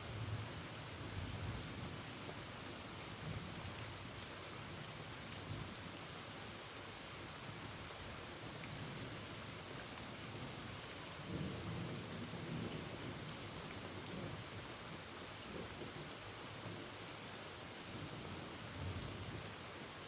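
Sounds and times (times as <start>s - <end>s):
rain on a tin roof: 0.0s - 20.0s.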